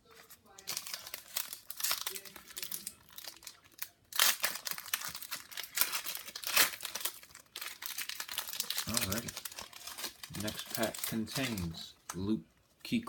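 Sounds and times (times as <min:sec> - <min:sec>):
plastic wrapper crinkling and tearing: 0:00.0 - 0:12.9.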